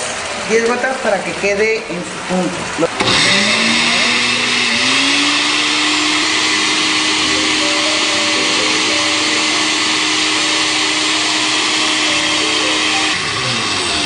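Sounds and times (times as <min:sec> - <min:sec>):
blender motor running: 0:02.6 - 0:14.0.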